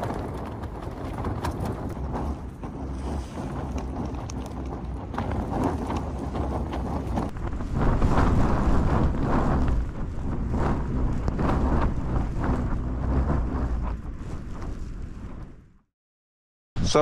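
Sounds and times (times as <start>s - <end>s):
tent fabric flapping: 0.0s - 15.9s
wind gusting: 0.0s - 15.9s.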